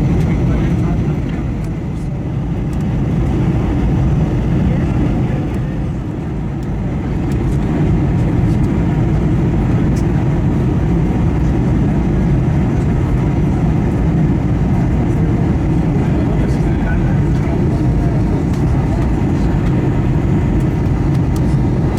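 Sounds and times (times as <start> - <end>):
airplane cabin engine rumble: 0.0 - 21.9.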